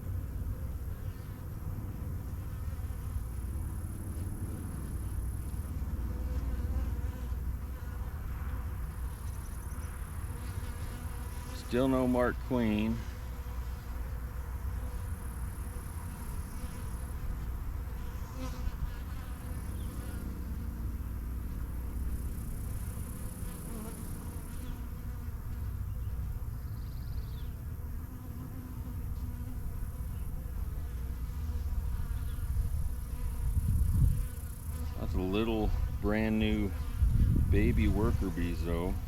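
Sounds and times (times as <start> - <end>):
honeybees buzzing: 0.0 - 39.0.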